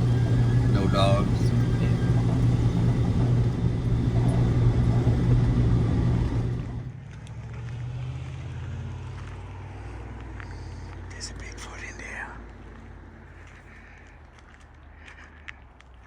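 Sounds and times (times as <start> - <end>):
vehicle engine and road drone: 0.0 - 16.0.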